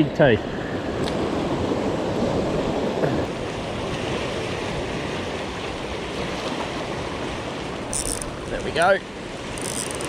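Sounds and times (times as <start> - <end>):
sea waves washing: 0.6 - 10.0.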